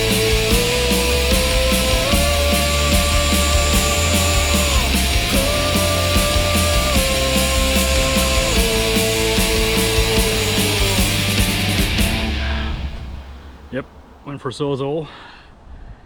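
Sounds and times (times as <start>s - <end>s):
distorted electric guitar: 0.0s - 13.4s
steady drum beat: 0.0s - 13.8s.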